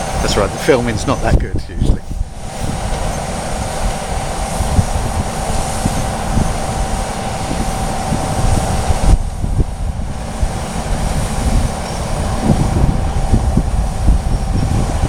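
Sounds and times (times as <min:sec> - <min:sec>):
mid-pitched hum: 0:00.0 - 0:15.0
moving vehicle rumble: 0:00.0 - 0:15.0.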